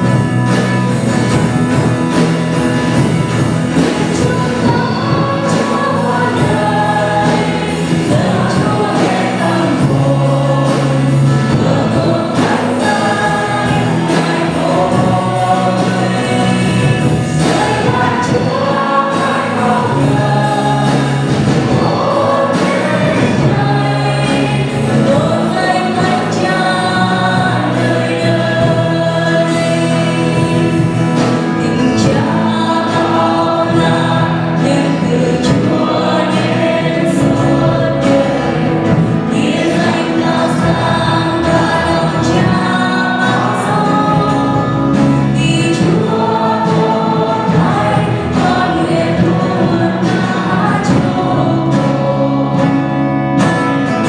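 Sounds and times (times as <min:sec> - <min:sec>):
acoustic guitar: 0:00.0 - 0:54.0
backing voices: 0:00.0 - 0:54.0
bass: 0:00.0 - 0:54.0
drums: 0:00.0 - 0:54.0
woman singing lead: 0:00.0 - 0:54.0.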